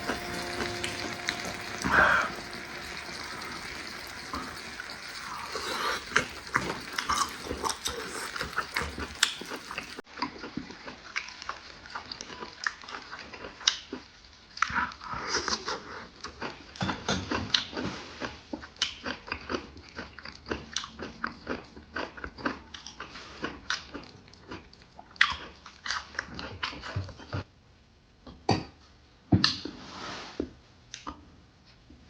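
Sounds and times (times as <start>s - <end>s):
wet chewing and crunching: 0.0s - 27.4s.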